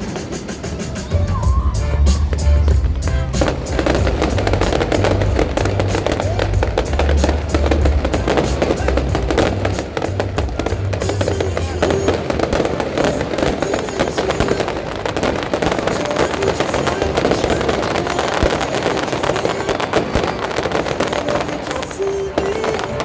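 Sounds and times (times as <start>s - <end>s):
fireworks cracks and bangs: 0.0s - 23.0s
music: 0.0s - 23.0s.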